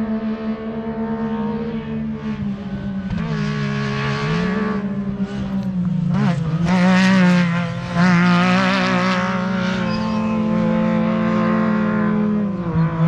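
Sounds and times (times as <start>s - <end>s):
race vehicle engine passing: 0.0s - 13.0s.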